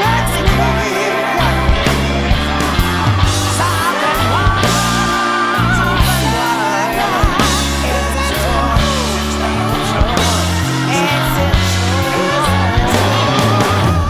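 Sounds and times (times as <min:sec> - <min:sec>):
bass guitar: 0:00.0 - 0:14.0
drums: 0:00.0 - 0:14.0
rock music: 0:00.0 - 0:14.0
wavering lead melody: 0:00.0 - 0:14.0.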